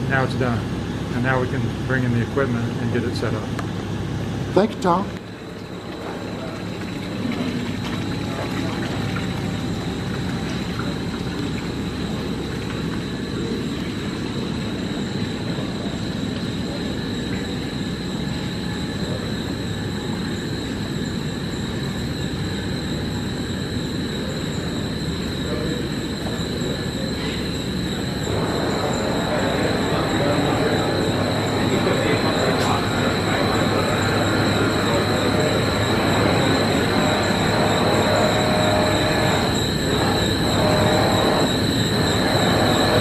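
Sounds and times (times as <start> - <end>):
high-pitched whine: 0.0 - 43.0
machinery humming: 0.0 - 43.0.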